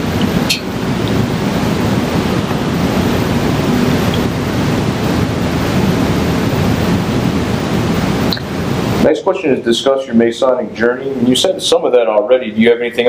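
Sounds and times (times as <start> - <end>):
loud rushing noise: 0.0 - 11.8.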